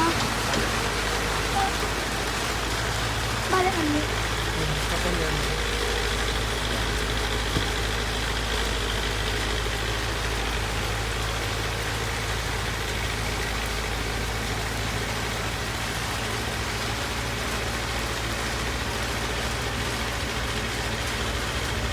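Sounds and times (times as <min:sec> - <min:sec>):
heavy rain falling: 0:00.0 - 0:21.9.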